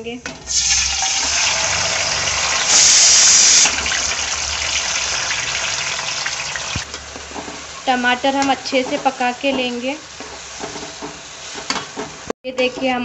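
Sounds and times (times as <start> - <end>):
tomatoes sizzling in hot oil: 0.4 - 13.0.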